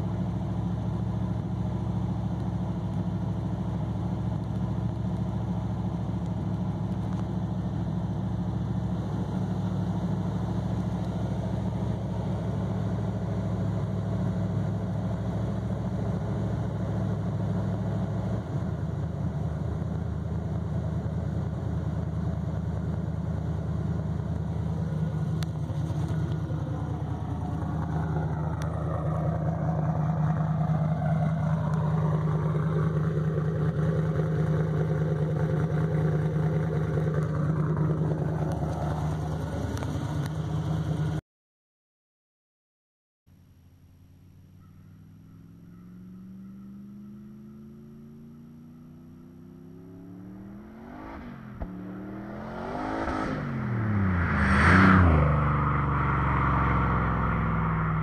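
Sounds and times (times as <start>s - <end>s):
car engine idling: 0.0s - 41.2s, 43.3s - 54.3s.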